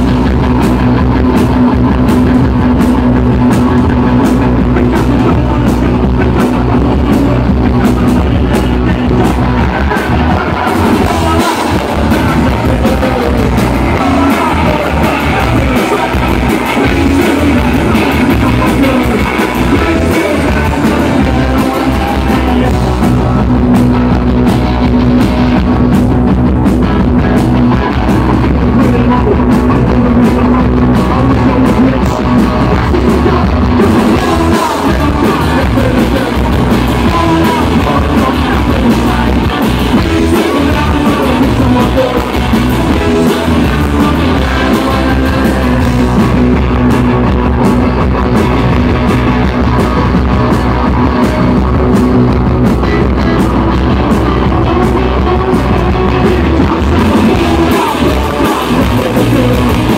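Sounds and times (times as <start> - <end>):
drums: 0.0 - 59.9
electric guitars: 0.0 - 59.9
man singing: 0.0 - 59.9.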